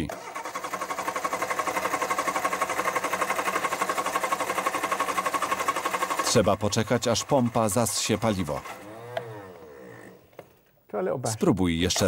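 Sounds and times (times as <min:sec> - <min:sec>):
engine cranking on starter motor: 0:00.0 - 0:10.6.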